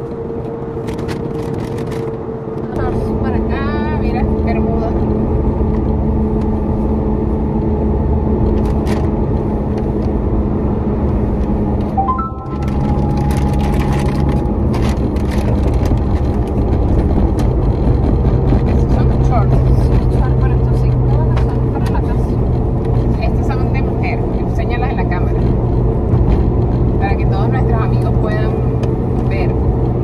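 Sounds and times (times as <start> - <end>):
car engine: 0.0 - 30.0
road noise: 0.0 - 30.0.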